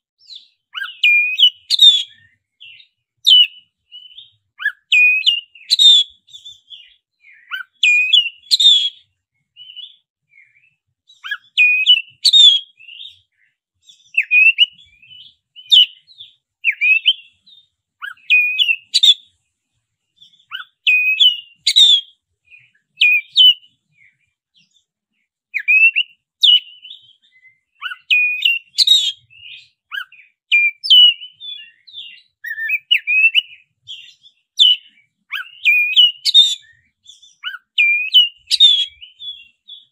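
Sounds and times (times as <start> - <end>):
bird singing whistled phrases: 0.2 - 19.4, 20.2 - 24.8, 25.5 - 39.9.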